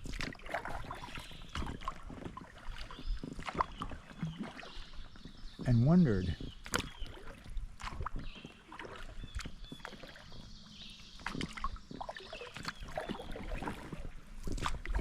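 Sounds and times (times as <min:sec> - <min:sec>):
paddle strokes in water: 0:00.0 - 0:15.0
small water splashes: 0:00.0 - 0:15.0
water dripping from paddle: 0:00.0 - 0:15.0.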